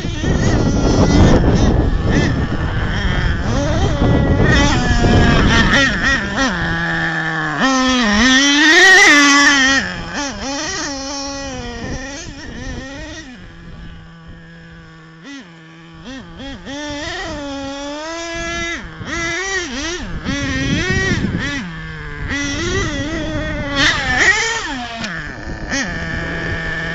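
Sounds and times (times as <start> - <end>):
model truck engine revving: 0.0 - 26.9.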